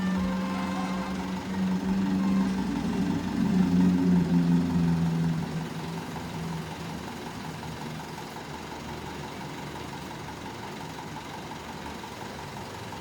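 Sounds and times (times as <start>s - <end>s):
heavy vehicle engine idling: 0.0s - 13.0s.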